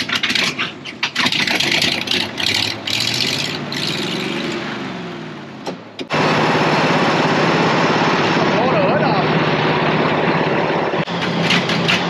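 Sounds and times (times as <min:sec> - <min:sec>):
tractor diesel engine: 0:00.0 - 0:12.0.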